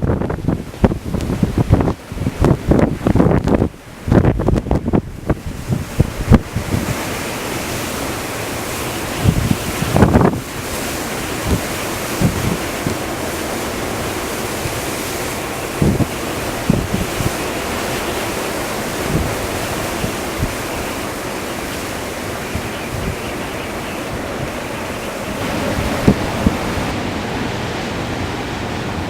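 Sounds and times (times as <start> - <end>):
blizzard wind blowing: 0.0 - 29.0
wind buffeting microphone: 0.0 - 29.0.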